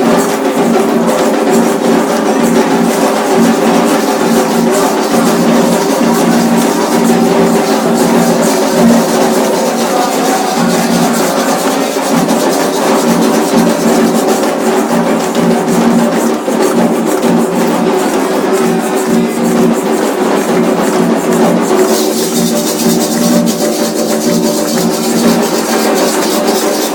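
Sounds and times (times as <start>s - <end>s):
percussion music with drums: 0.0s - 26.9s
wood-block-like clicking beat: 0.0s - 26.9s.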